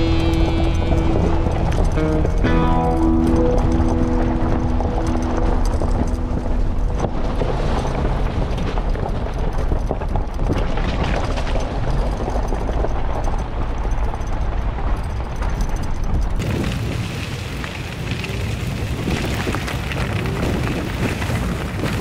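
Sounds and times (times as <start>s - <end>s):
tyres crunching on gravel: 0.0s - 22.0s
vehicle engine rumble: 0.0s - 22.0s.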